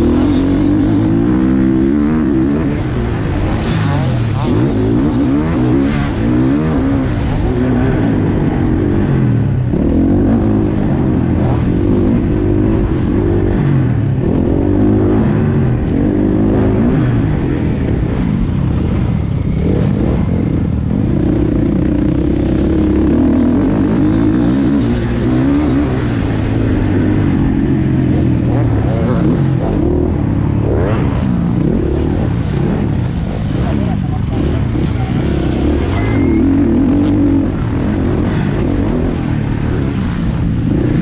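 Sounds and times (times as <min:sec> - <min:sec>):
motocross engine revving: 0:00.0 - 0:41.0.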